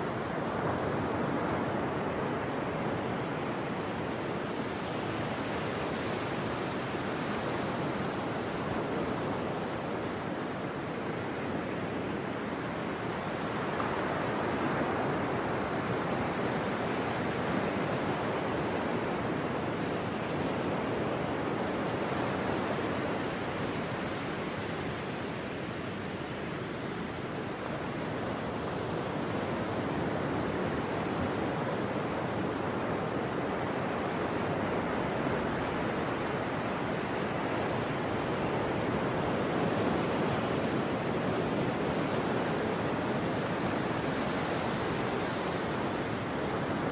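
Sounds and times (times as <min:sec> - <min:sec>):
ocean surf and breaking waves: 0:00.0 - 0:46.9.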